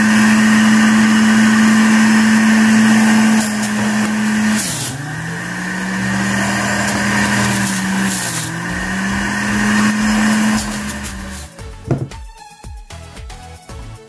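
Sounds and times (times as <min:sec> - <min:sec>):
juicer motor whine: 0:00.0 - 0:12.1.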